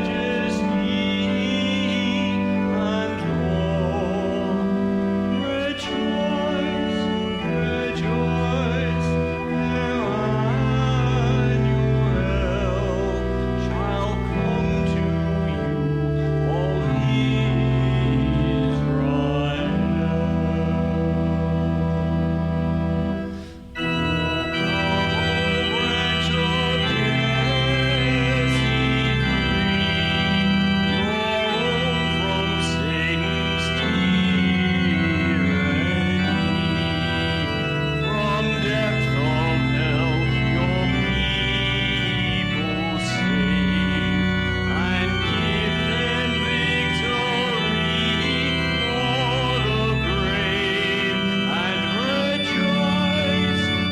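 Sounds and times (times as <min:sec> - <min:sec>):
church organ playing: 0:00.0 - 0:53.9.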